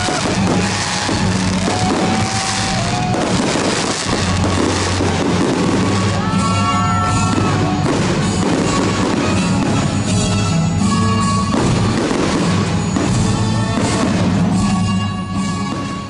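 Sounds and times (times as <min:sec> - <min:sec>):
fireworks crackling and bursting: 0:00.0 - 0:16.0.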